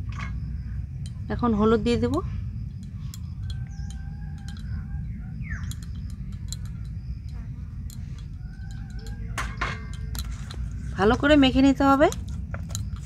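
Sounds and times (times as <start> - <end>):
steady low rumble: 0.0 - 13.0
birds chirping: 0.7 - 13.0.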